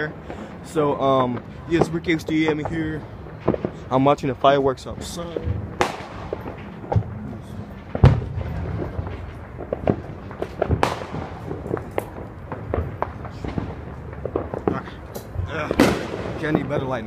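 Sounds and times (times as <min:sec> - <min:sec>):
fireworks bangs: 0:00.0 - 0:17.0
fireworks pops and crackles: 0:00.0 - 0:17.0.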